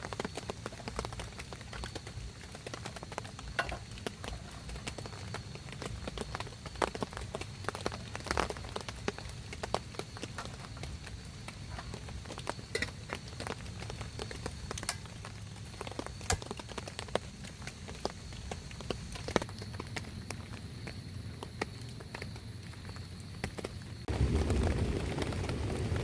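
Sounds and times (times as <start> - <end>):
rain drops tapping: 0.0 - 26.0.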